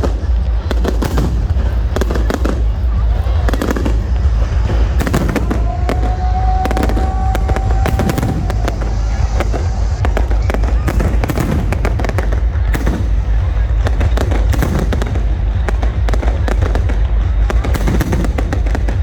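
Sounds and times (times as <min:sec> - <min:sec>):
continuous low rumble: 0:00.0 - 0:19.0
firework bangs and crackles: 0:00.0 - 0:19.0
steady high whistling tone: 0:00.0 - 0:19.0.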